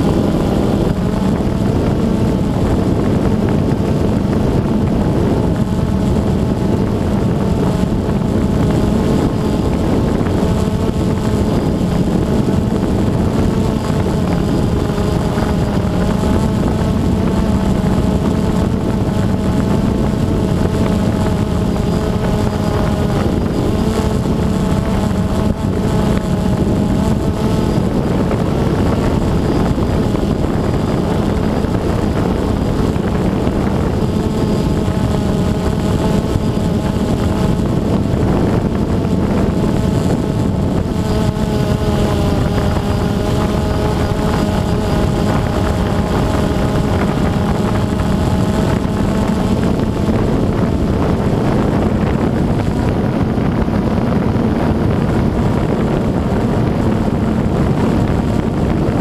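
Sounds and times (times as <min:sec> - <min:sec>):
drone motors humming: 0:00.0 - 0:59.0
wind on microphone: 0:00.0 - 0:59.0.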